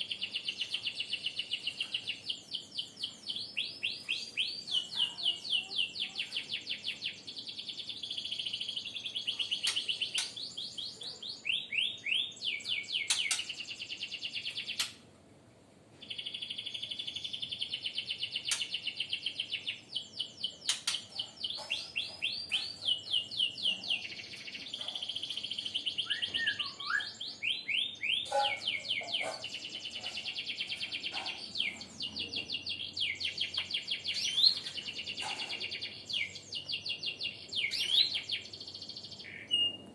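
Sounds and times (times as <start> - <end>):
songbird singing: 0.0 - 15.0, 15.9 - 39.9.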